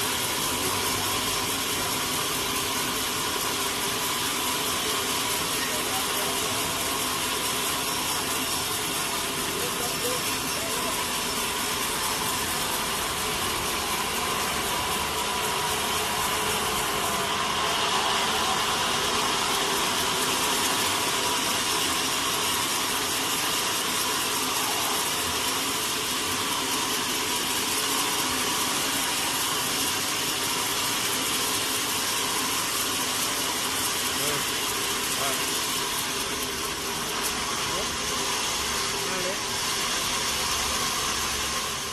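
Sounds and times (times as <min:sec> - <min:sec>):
sawmill machinery whirring: 0:00.0 - 0:41.9.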